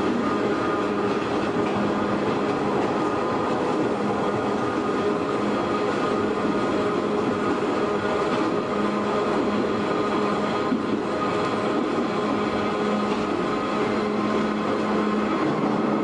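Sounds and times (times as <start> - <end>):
traction motor drone: 0.0 - 16.0
train wheels rumbling on rails: 0.0 - 16.0.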